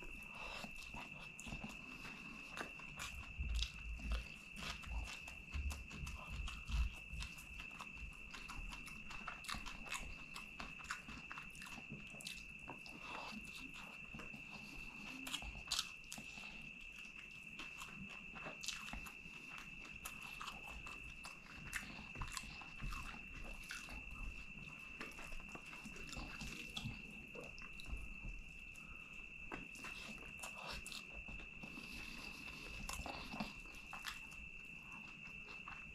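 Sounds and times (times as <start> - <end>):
crunchy bites: 0.0 - 35.9
wet chewing and lip smacking: 0.0 - 35.9.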